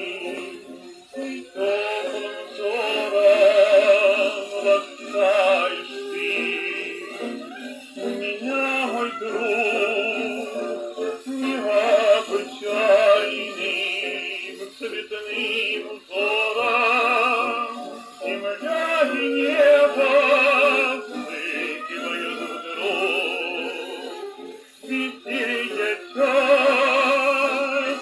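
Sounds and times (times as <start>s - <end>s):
old record of hawaiian music: 0.0s - 28.0s.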